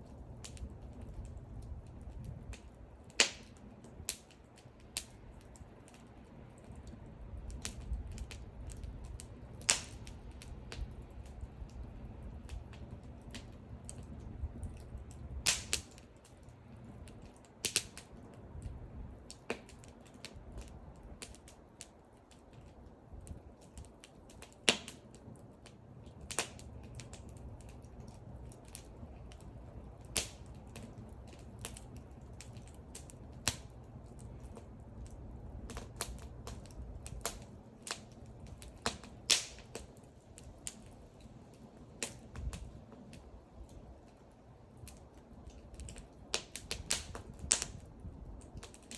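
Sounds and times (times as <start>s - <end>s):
low rumble of flames: 0.0s - 48.9s
wood crackling and popping: 0.0s - 48.9s.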